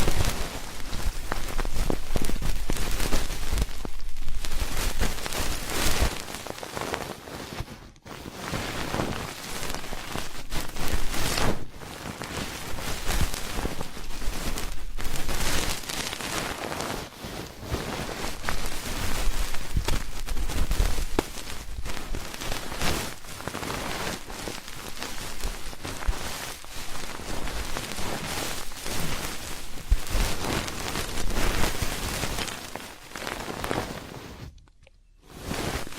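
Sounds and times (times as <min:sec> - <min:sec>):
ear pick scratching microphone: 0:00.0 - 0:34.6, 0:35.2 - 0:35.9.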